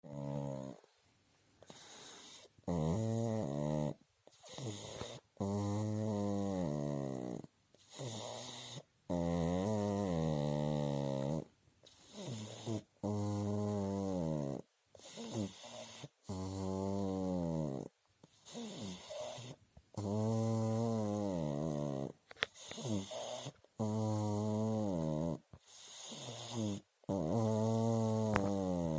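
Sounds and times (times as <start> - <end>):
dog snoring: 0.0 - 0.9, 1.6 - 28.9.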